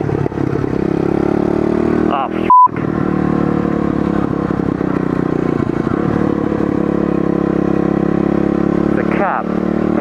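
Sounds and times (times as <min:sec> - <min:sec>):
small motorbike engine running: 0:00.0 - 0:10.0.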